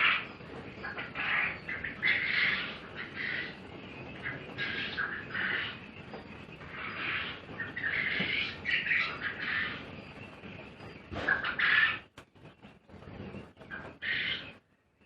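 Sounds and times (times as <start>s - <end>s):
quail calling: 0.0s - 12.1s, 13.6s - 14.6s.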